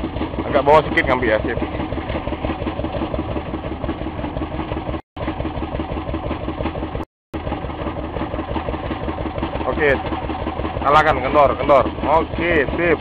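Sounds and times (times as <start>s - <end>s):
boat engine throbbing: 0.0s - 13.0s.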